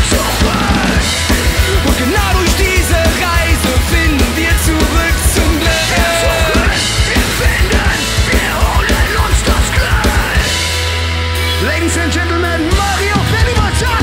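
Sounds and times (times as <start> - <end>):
drum kit beat: 0.0 - 14.0
heavy bass: 0.0 - 14.0.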